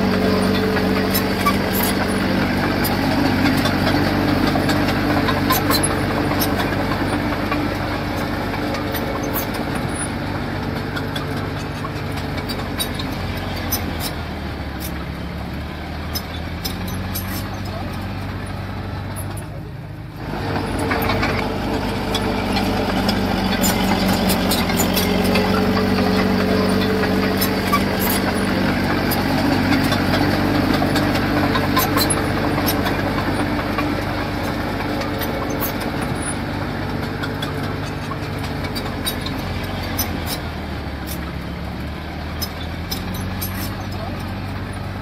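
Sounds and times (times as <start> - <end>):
sharp clicks and clatter: 0.0 - 15.2, 20.2 - 41.5
heavy machine engine running: 0.0 - 45.0.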